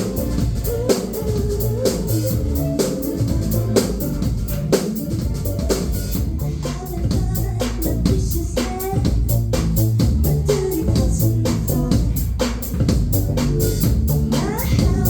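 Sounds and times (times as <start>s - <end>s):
live pop band playing: 0.0s - 15.0s
steady drum beat: 0.0s - 15.0s.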